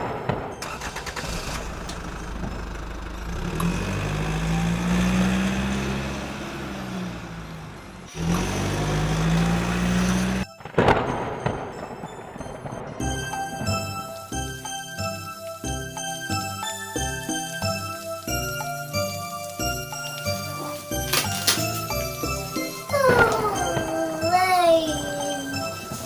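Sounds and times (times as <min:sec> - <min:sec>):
engine humming: 0:00.0 - 0:11.0, 0:13.0 - 0:26.0.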